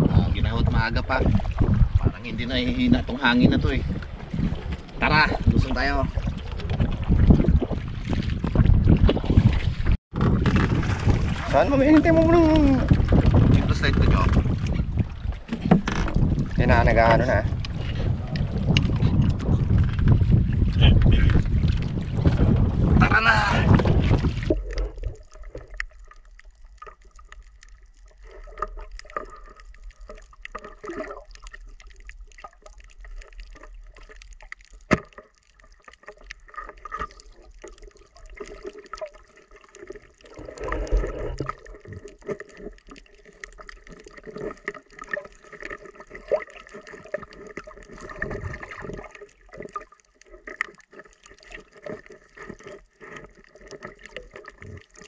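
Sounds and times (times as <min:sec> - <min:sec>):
underwater gurgling water: 0:00.0 - 0:55.0.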